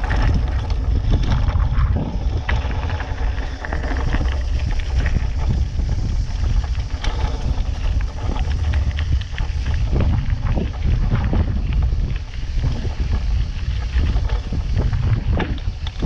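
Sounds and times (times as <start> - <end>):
bike clicks and rattles: 0.0 - 16.0
wind rumble on microphone: 0.0 - 16.0.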